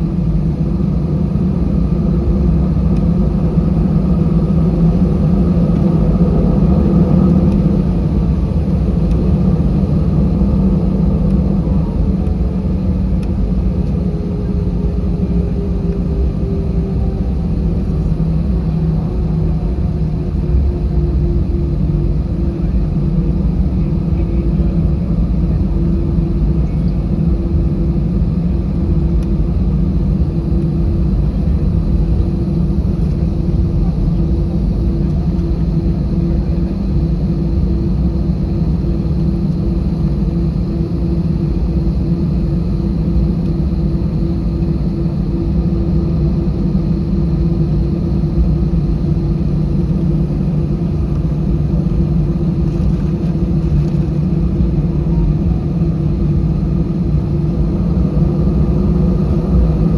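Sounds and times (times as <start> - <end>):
aircraft engines rumbling: 0.0 - 59.9
steady hum tone: 0.0 - 59.9.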